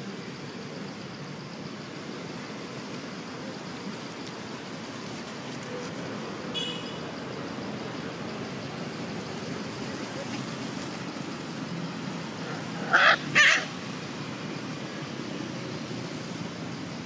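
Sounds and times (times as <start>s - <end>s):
distant traffic: 0.0s - 17.0s.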